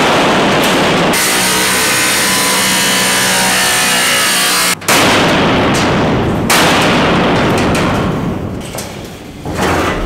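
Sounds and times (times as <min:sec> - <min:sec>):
loud ringing metal crashes: 0:00.0 - 0:08.4.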